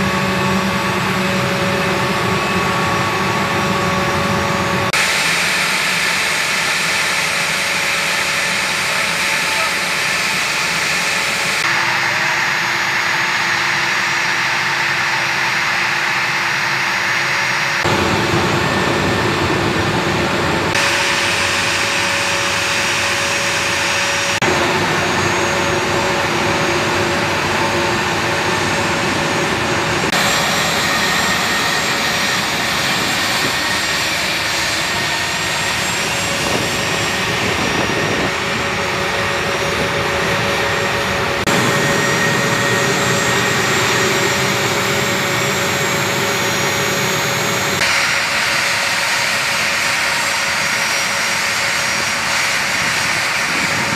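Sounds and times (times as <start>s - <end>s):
jet engine rushing and whining: 0.0s - 53.9s.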